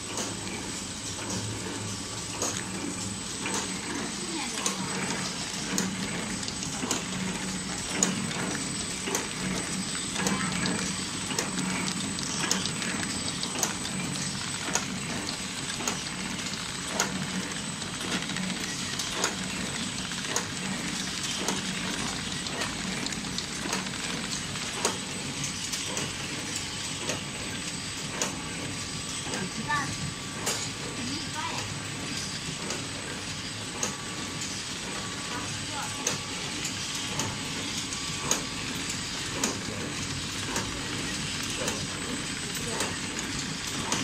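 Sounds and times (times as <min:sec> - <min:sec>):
packing machine hum: 0:00.0 - 0:44.0.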